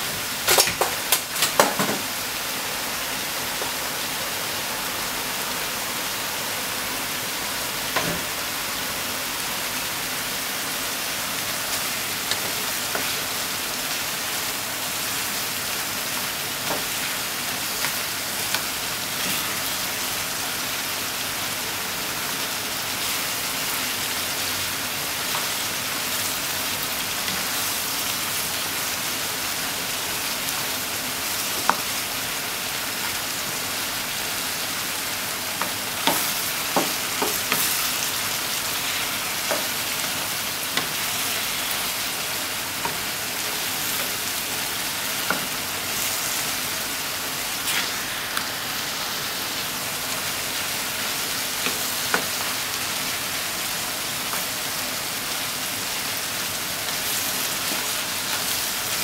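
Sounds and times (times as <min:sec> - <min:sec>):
food sizzling in a frying pan: 0:00.0 - 0:59.0.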